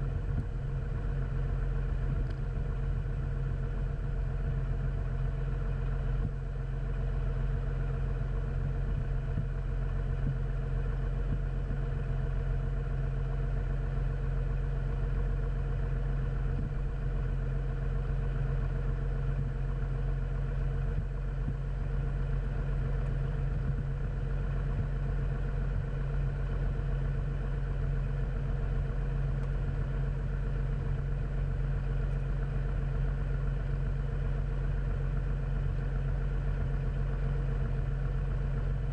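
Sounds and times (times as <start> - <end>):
aircraft engine and propeller running: 0.0 - 38.9.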